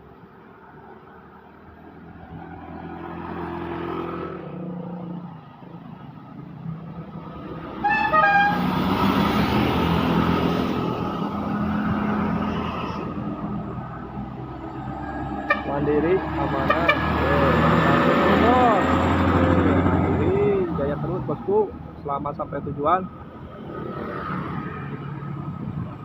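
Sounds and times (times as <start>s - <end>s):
heavy vehicles passing: 0.0s - 26.0s.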